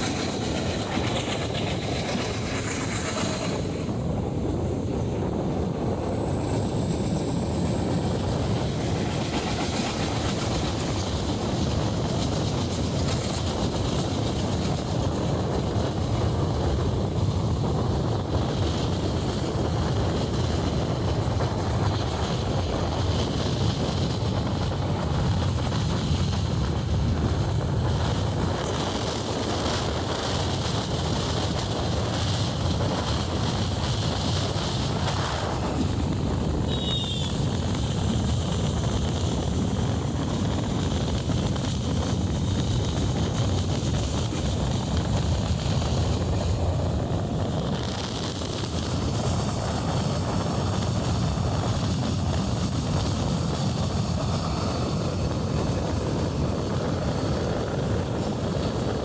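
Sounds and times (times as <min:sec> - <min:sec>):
moving train rumbling: 0:00.0 - 0:59.0.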